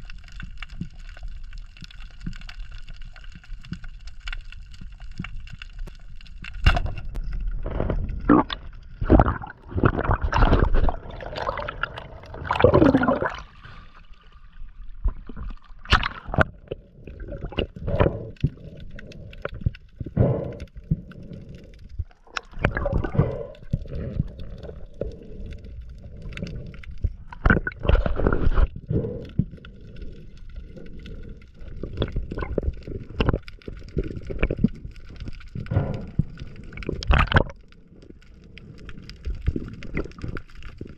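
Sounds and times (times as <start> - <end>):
underwater gurgling and rushing: 0.0 - 40.9.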